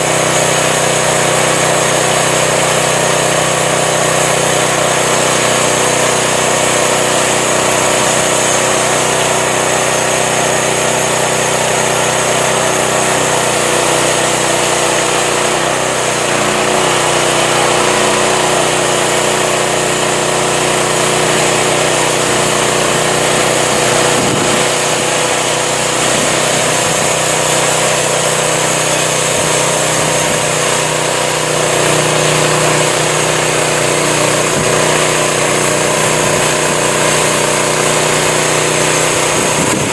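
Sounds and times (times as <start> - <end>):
sawmill engine running steadily: 0.0 - 39.9.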